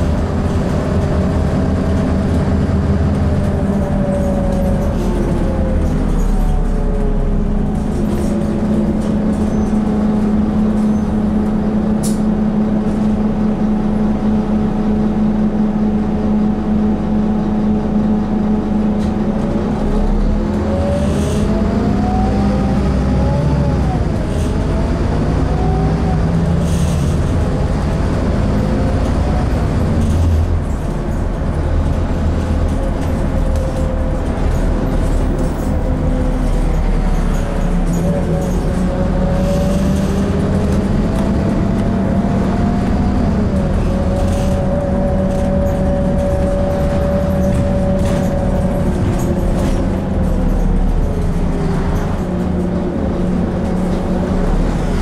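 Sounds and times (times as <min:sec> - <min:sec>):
bus diesel engine: 0:00.0 - 0:55.0
road rumble: 0:00.0 - 0:55.0.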